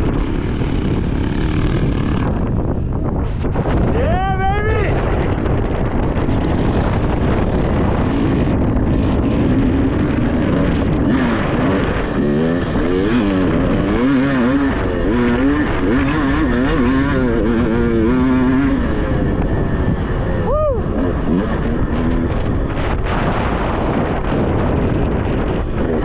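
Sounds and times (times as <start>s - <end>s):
dirt bike engine: 0.0s - 26.0s
rush of noise: 0.0s - 26.0s.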